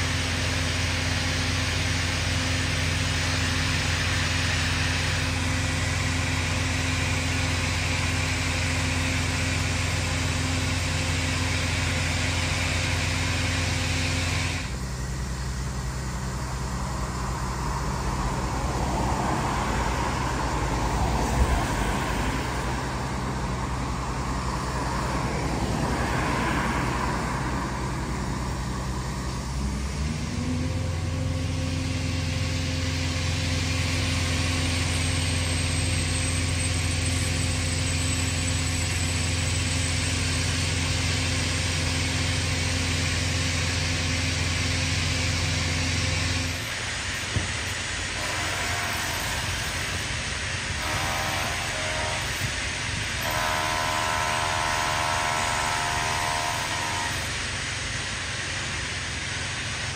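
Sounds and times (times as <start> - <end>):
heavy machinery engine running: 0.0 - 59.9
hiss of working noise: 0.0 - 59.9.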